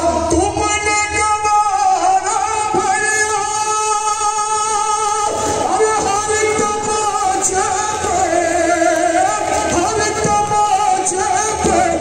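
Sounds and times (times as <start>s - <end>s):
man singing a lament: 0.0s - 12.0s.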